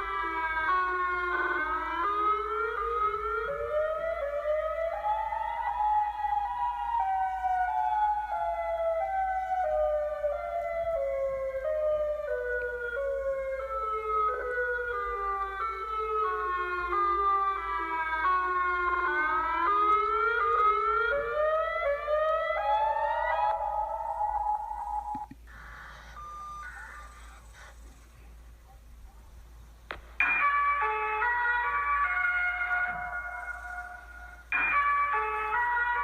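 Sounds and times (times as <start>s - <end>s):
siren-like horn tone: 0.0s - 11.0s, 11.7s - 27.7s, 30.2s - 36.0s.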